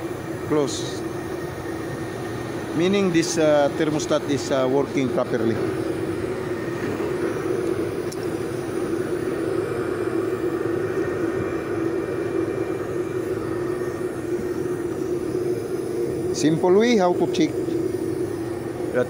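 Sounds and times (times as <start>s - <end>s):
mechanical drone with low hum: 0.0s - 19.0s.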